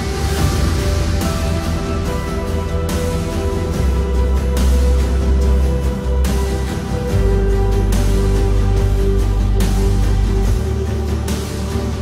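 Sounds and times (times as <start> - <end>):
dramatic background music: 0.0 - 12.0.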